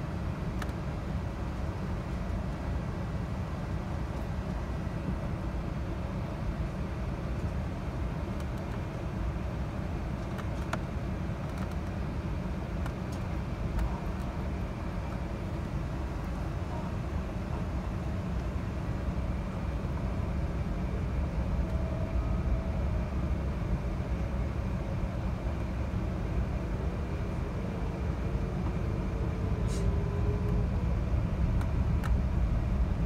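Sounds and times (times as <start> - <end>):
aircraft cabin rumble and hiss: 0.0 - 33.0.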